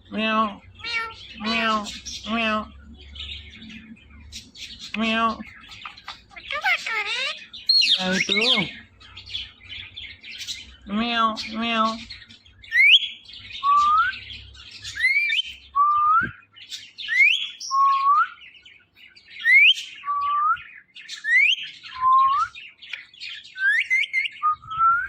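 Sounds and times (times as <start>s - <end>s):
faint bird chirping: 0.0s - 25.0s.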